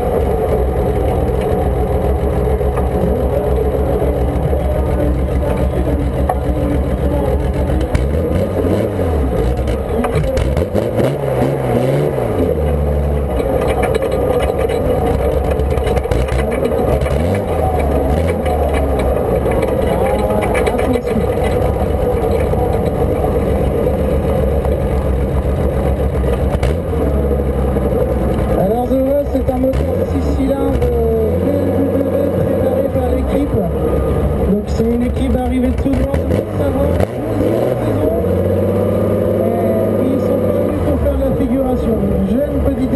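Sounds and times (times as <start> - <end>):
tractor engine running hard: 0.0 - 42.9.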